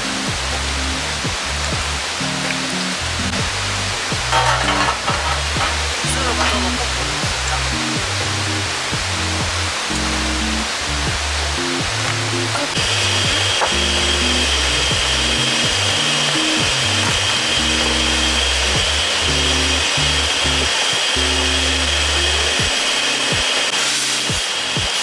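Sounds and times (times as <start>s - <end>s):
background music low notes: 0.0s - 24.4s
steady hiss: 0.0s - 25.0s.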